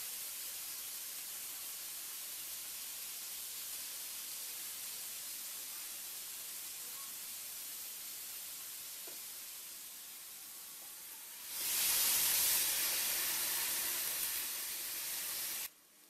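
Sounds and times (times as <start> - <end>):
chicken sizzling on a grill: 0.0 - 15.8.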